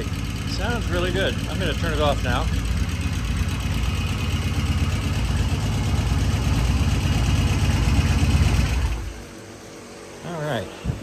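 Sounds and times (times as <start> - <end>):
motorcycle engine idling: 0.0 - 9.7.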